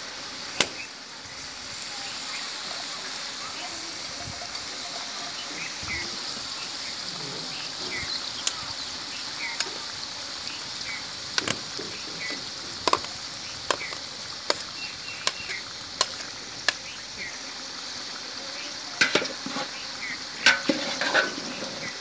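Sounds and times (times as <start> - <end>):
chicken and onions sizzling in oil: 0.0 - 22.0.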